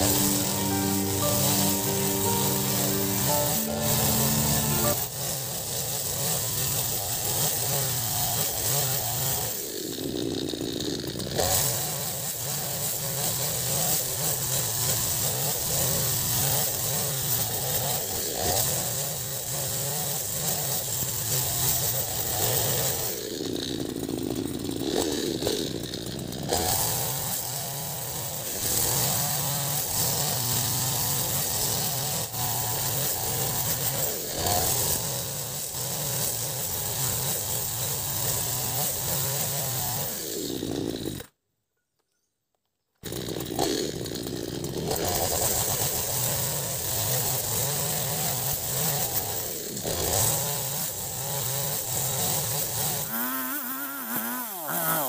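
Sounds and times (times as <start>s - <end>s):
chainsaw cutting timber: 0.0s - 41.4s, 43.0s - 55.0s.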